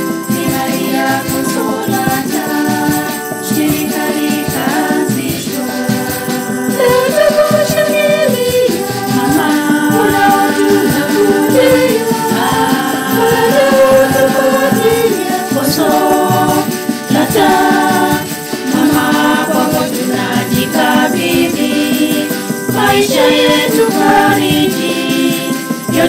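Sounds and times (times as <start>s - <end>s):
hand percussion beat: 0.0s - 26.0s
women's choir singing a hymn: 0.0s - 26.0s.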